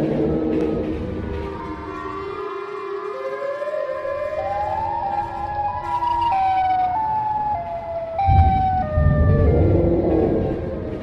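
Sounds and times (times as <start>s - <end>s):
wavering siren wail: 1.4s - 11.0s.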